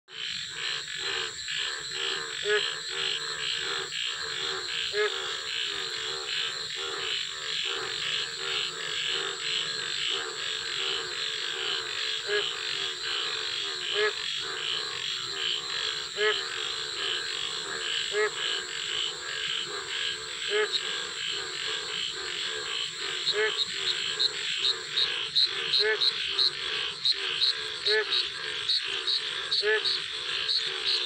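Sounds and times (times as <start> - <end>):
frogs calling in pulses: 0.1 - 31.0.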